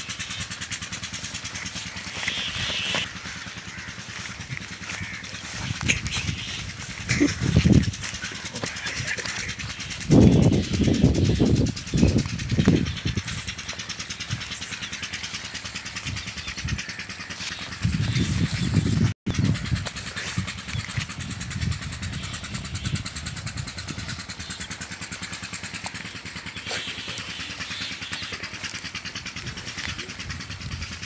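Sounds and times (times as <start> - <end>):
engine running with rapid beat: 0.0 - 31.0.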